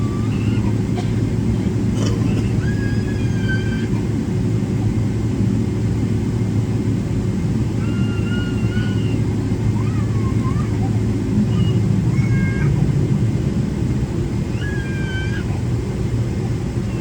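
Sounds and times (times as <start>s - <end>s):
aircraft cabin rumble: 0.0s - 17.0s
steady hum: 0.0s - 17.0s.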